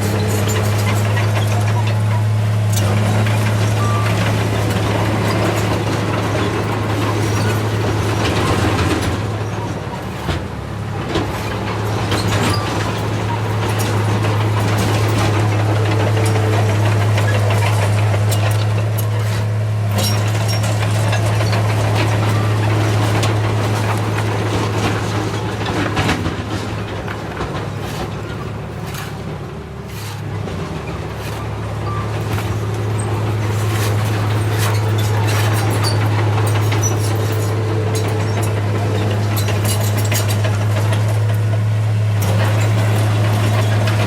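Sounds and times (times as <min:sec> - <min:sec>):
heavy diesel engine running: 0:00.0 - 0:44.0
clanks and knocks: 0:00.1 - 0:44.0.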